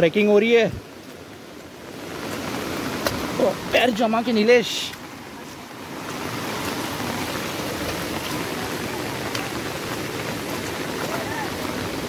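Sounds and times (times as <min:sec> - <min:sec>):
river rushing over rocky rapids: 0:01.6 - 0:12.0.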